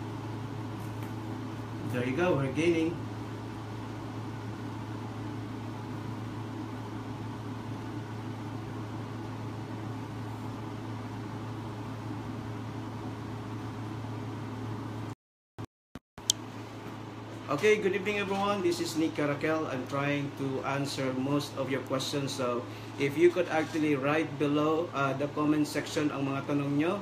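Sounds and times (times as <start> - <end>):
low hum with hiss: 0.0 - 15.2, 16.2 - 27.0.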